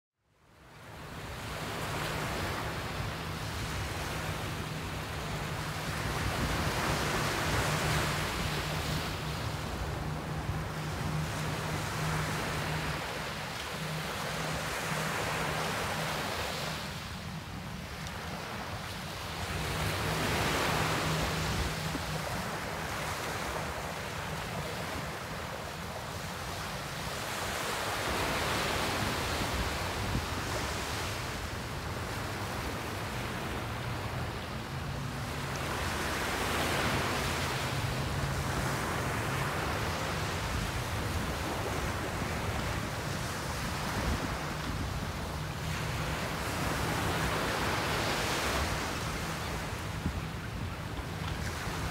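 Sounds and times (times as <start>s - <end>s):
waves washing up a beach: 0.4s - 51.9s.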